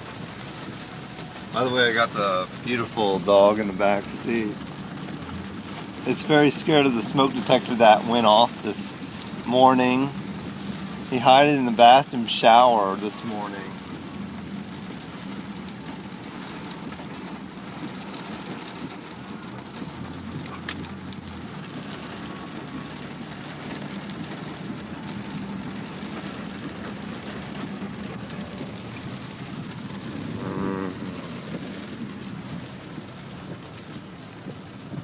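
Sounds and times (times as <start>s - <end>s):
car engine hum: 0.0s - 35.0s
heavy rain on a car: 0.0s - 35.0s
tyres on wet road: 0.0s - 35.0s.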